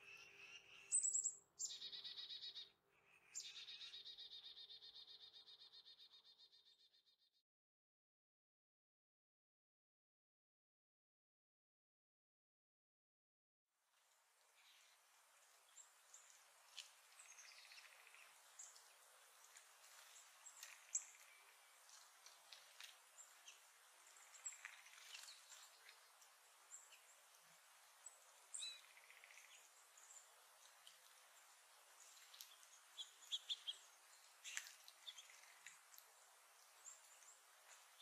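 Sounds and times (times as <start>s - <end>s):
songbirds chirping: 0.0s - 7.3s, 14.0s - 38.0s.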